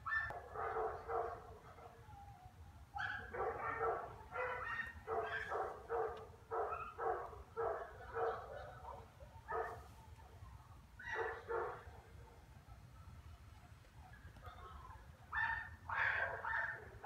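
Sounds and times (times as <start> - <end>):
dog barking: 0.0 - 2.0, 3.0 - 12.9, 14.5 - 17.0.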